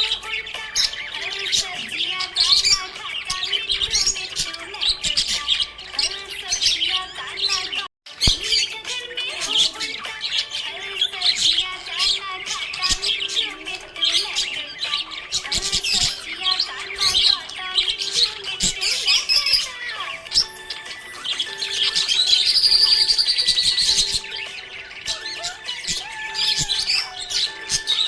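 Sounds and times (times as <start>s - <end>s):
budgerigar chattering: 0.0s - 28.0s.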